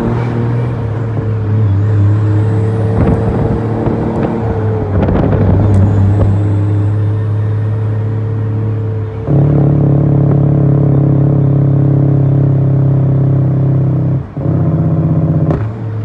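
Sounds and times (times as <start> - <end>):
truck diesel engine pulling: 0.0 - 16.0.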